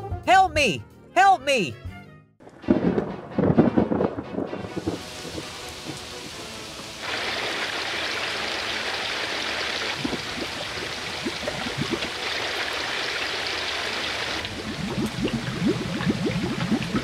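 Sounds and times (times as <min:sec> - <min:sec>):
heavy rain pouring: 0:02.7 - 0:17.0.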